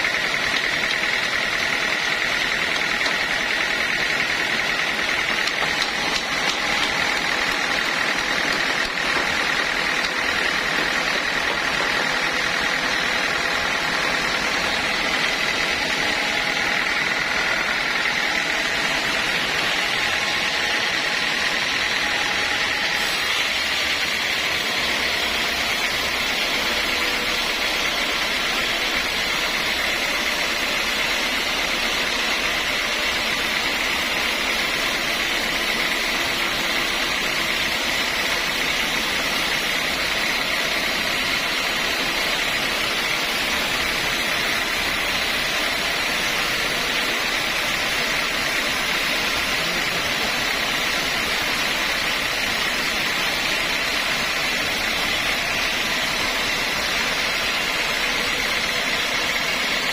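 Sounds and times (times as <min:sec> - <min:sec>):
high machine whine: 0:00.0 - 0:59.9
sawmill machinery running: 0:00.0 - 0:59.9.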